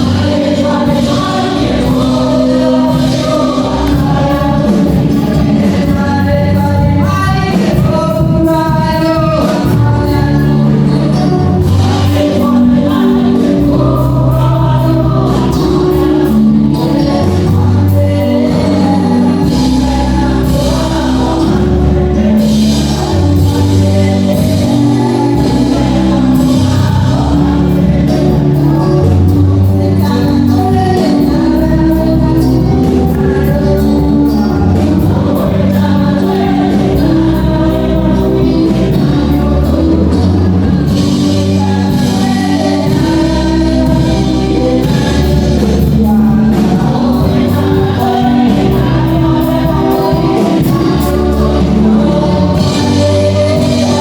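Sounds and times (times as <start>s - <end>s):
bass and beat: 0.0s - 54.0s
choir singing gospel music: 0.0s - 54.0s.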